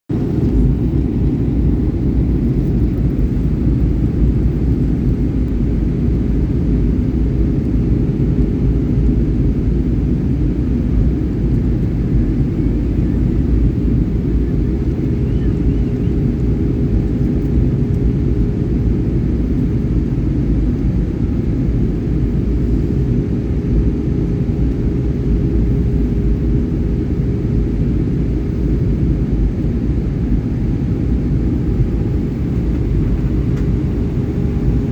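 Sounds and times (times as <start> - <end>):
passenger jet rumbling in flight: 0.1 - 34.9.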